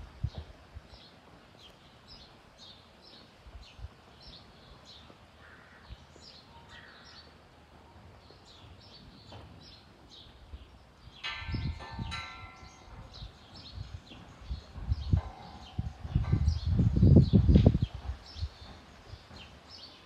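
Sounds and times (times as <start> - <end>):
background hiss: 0.0 - 20.0
small birds chirping: 0.2 - 20.0.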